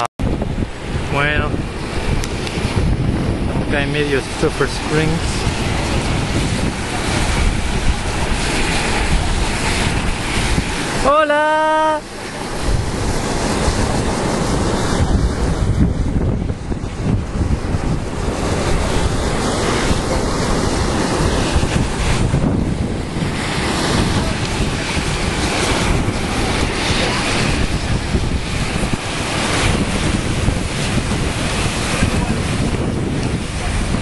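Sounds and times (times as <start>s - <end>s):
wind buffeting the microphone: 0.0s - 34.0s.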